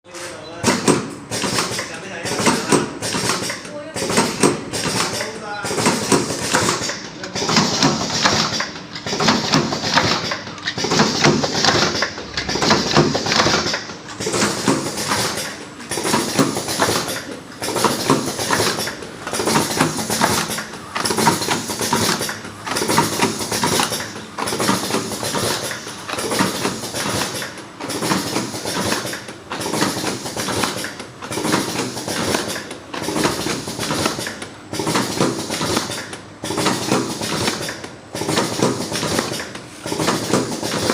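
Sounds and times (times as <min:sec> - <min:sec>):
packaging machines clicking and clattering: 0:00.1 - 0:40.9.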